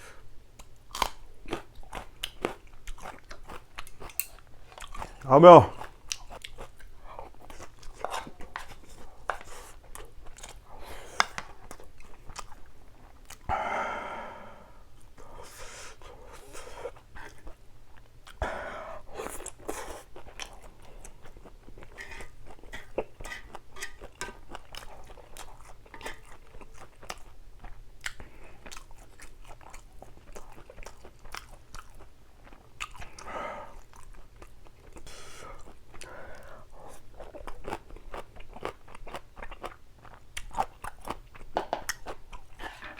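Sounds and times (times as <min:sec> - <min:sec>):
chewing and crunching: 0:00.6 - 0:13.5, 0:16.0 - 0:18.4, 0:19.0 - 0:42.9.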